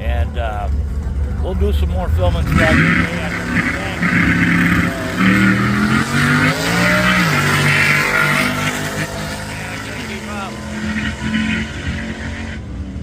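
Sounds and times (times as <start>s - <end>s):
drag car engine accelerating: 0.0s - 13.0s.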